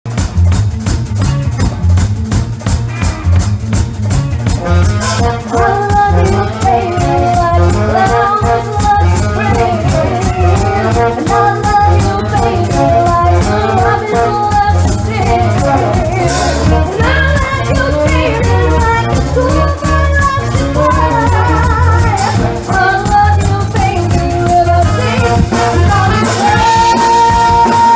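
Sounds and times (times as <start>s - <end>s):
live band playing funky music: 0.0s - 27.9s.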